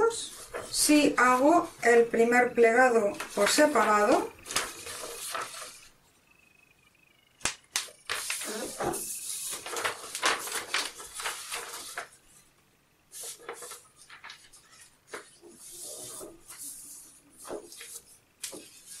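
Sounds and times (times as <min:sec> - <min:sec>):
paper rustling and crackling: 0:00.0 - 0:06.0, 0:07.8 - 0:12.5, 0:13.1 - 0:19.0.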